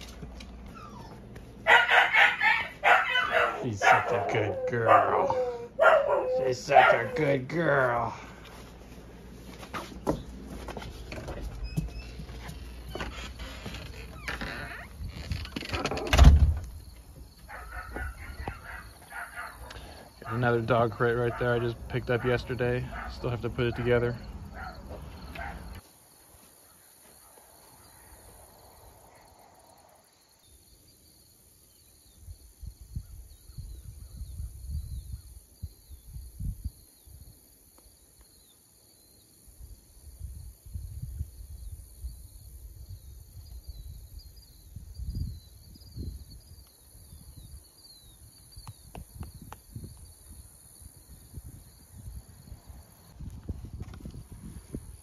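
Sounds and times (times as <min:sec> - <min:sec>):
insects chirring: 0:00.7 - 0:07.8, 0:11.0 - 0:55.0.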